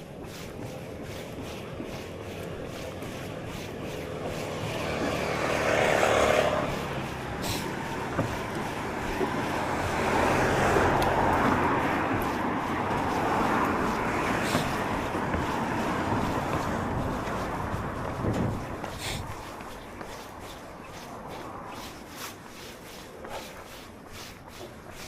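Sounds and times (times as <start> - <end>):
wind buffeting microphone: 0.0 - 22.2.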